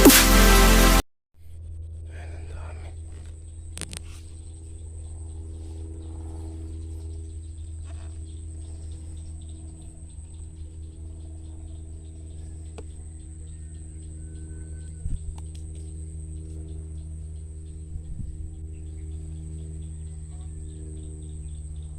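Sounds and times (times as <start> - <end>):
strong low hum: 0.0 - 21.9.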